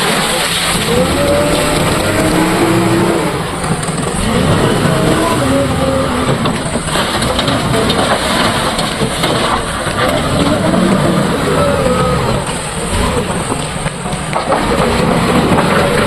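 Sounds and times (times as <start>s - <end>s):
clattering: 0.0s - 16.0s
diesel engine revving: 0.0s - 16.0s.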